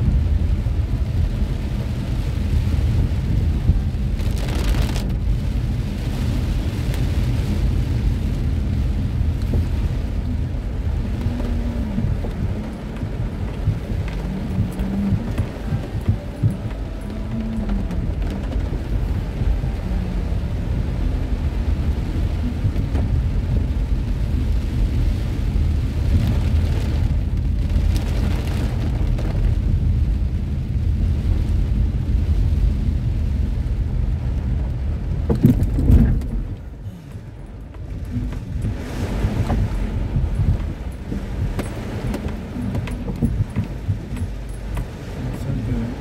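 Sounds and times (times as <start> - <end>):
heavy rain drumming on car roof: 0.0 - 46.0
low rumble of moving car: 0.0 - 46.0.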